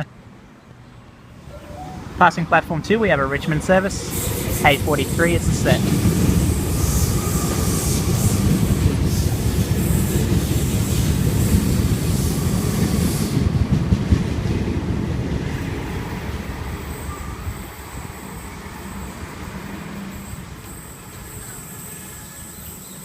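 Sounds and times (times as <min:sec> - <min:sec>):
train wheels rumbling on track: 0:03.0 - 0:23.0.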